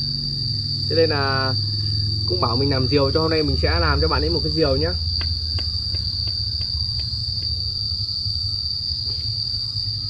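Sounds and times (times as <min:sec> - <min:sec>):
insects chirring: 0:00.0 - 0:10.0
low rumble: 0:00.0 - 0:10.0.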